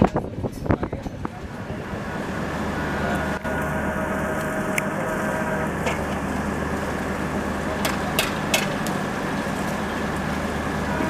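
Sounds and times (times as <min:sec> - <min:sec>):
diesel train engines idling: 0:00.0 - 0:11.0.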